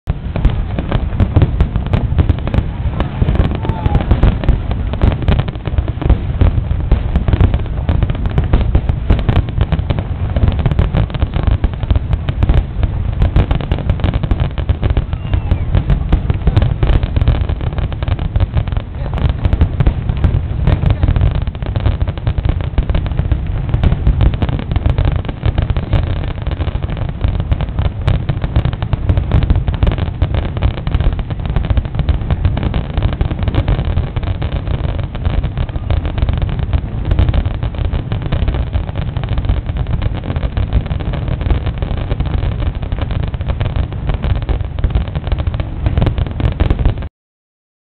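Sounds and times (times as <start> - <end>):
fireworks bangs: 0.0 - 47.1.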